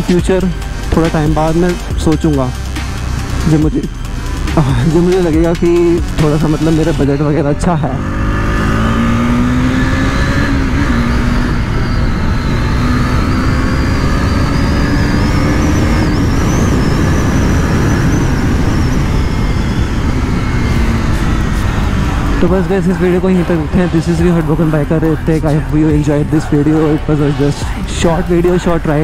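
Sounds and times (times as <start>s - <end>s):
motorcycle engine cruising: 0.0s - 29.0s
wind and road noise: 0.0s - 29.0s.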